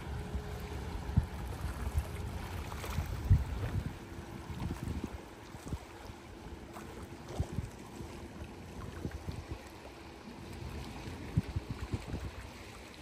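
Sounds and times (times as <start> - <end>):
wind buffeting microphone: 0.0 - 6.2, 7.0 - 9.8, 10.6 - 13.0
water lapping on concrete: 0.0 - 13.0.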